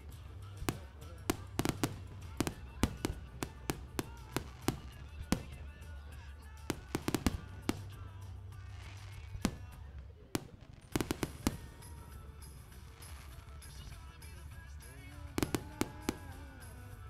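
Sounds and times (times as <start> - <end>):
fireworks bursting: 0.0 - 17.0
music: 0.0 - 17.0.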